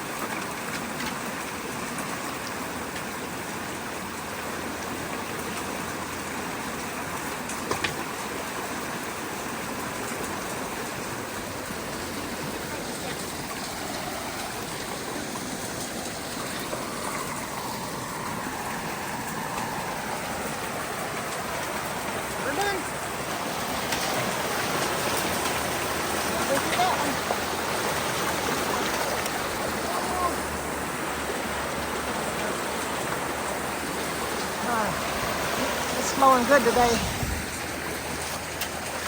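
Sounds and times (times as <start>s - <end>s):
creek water flowing fast: 0.0s - 39.0s.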